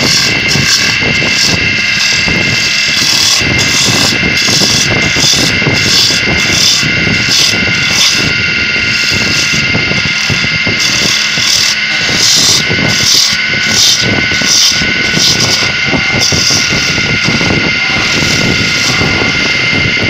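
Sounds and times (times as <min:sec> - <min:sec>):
tool scraping spinning wood: 0:00.0 - 0:20.0
wood lathe whine: 0:00.0 - 0:20.0.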